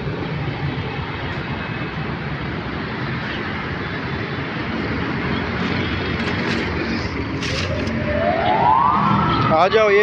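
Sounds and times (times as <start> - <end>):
city traffic: 0.0 - 10.0
engines rumbling: 0.0 - 10.0.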